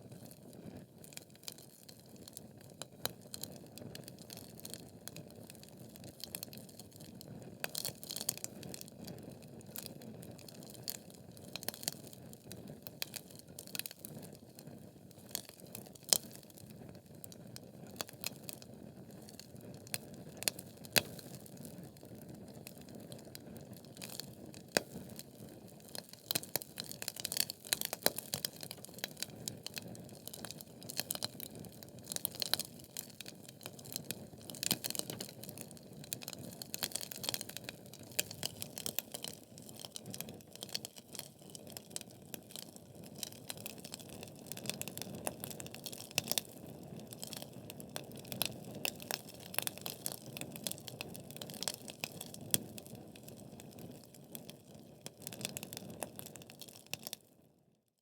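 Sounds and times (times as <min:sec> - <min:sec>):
fire crackling and popping: 0:00.0 - 0:57.3.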